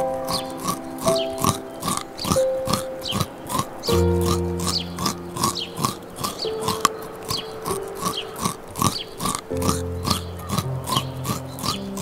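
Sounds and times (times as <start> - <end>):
animal crunching carrot: 0.0 - 12.0
soft music with held notes: 0.0 - 12.0.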